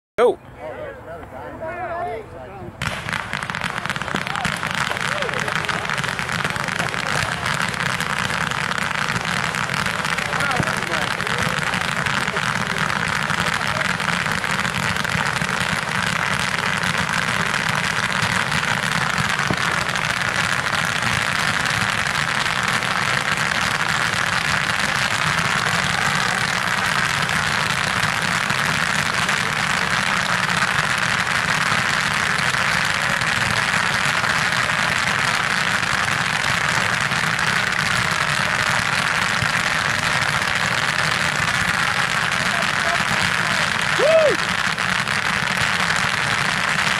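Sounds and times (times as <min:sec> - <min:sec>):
fireworks fountains crackling: 0:02.8 - 0:46.9.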